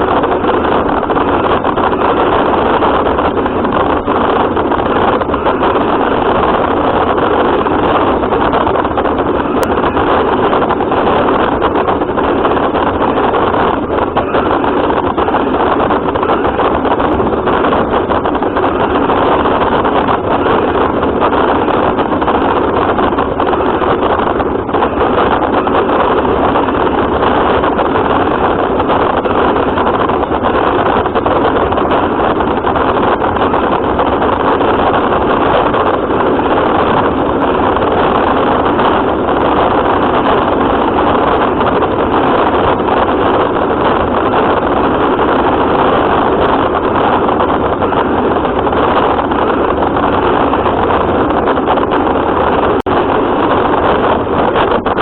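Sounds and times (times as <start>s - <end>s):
rc car motor and tyre noise: 0.0s - 54.8s.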